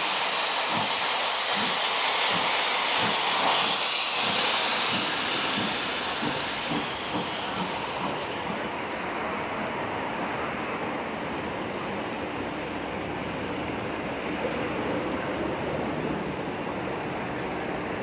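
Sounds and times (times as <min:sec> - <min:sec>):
train coaches rolling on rails: 0:00.0 - 0:18.0.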